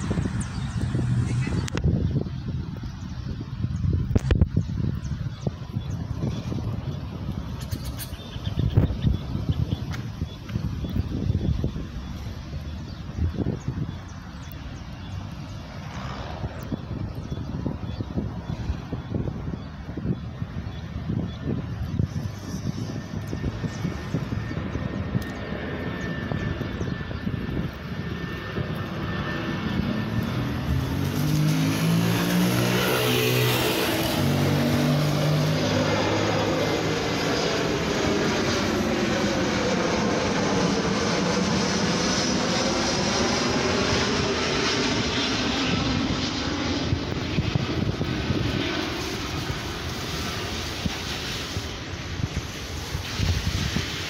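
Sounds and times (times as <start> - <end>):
jet engines roaring overhead: 0.0 - 54.0.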